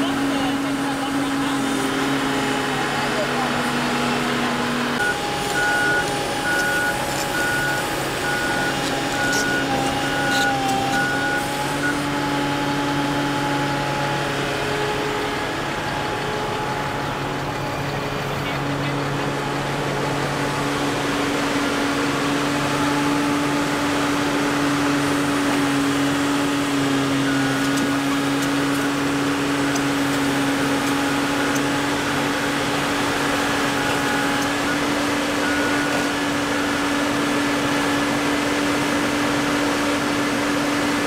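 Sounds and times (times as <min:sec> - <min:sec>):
excavator diesel engine droning: 0:00.0 - 0:41.0.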